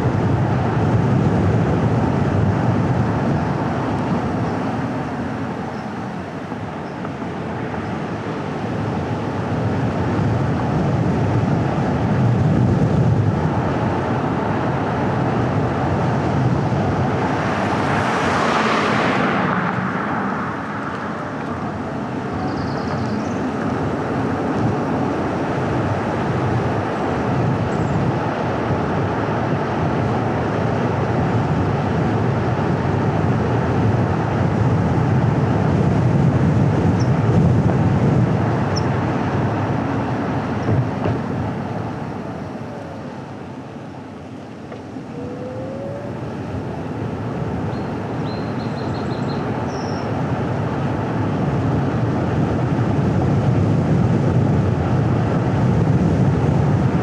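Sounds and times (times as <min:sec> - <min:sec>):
car driving on paved road: 0:00.0 - 0:57.0.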